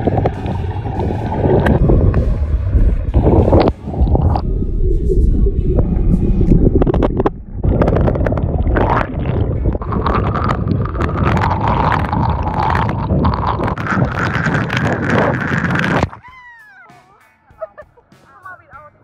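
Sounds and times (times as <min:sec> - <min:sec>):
steady whine: 0:00.0 - 0:16.2
underwater rumble of moving water: 0:00.0 - 0:16.2
crackling bubbles: 0:00.0 - 0:16.3.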